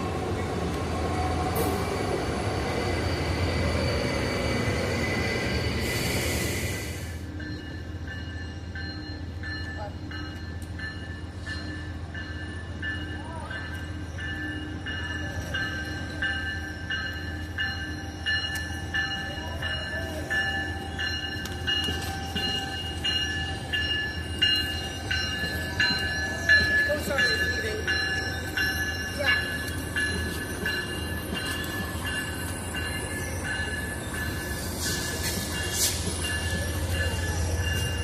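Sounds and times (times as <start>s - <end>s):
train engine rumble: 0.0s - 38.0s
locomotive bell ringing: 7.2s - 38.0s.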